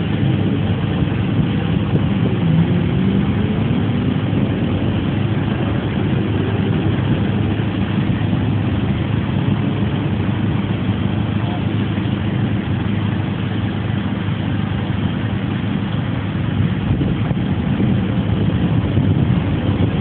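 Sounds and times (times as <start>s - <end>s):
car engines idling: 0.0s - 20.0s.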